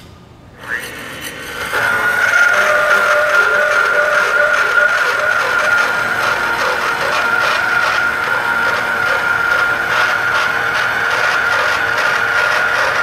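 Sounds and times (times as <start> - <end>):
cutter grinding steel pipe: 0.6 - 13.0
machine motor whining: 0.6 - 13.0.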